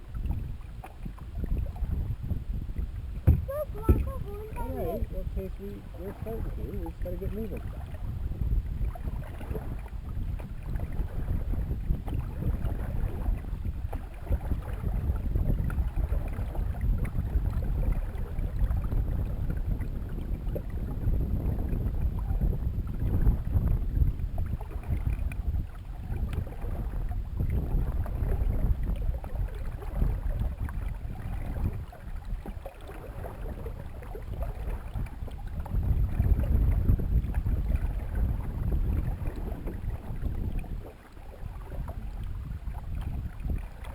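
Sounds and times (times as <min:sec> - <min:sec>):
water around canoe hull: 0:00.0 - 0:43.9
wind buffeting microphone: 0:00.0 - 0:43.9.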